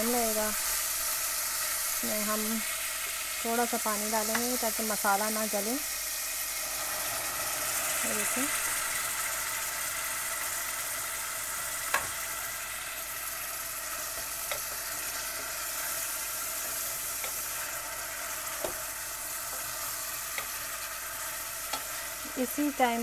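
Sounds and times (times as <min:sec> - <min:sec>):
meat sizzling in a saucepan: 0:00.0 - 0:23.0.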